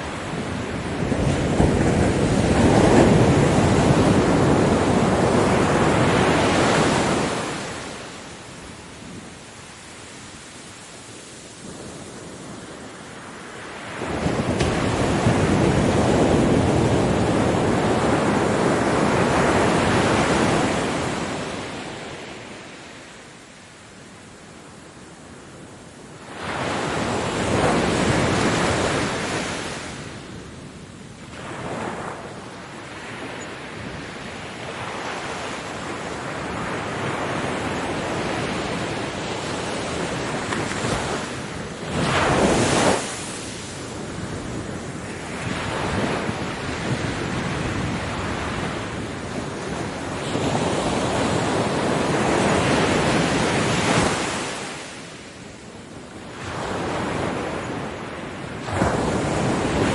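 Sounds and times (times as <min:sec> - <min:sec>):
ocean waves breaking: 0:00.0 - 0:22.9, 0:31.2 - 0:59.9.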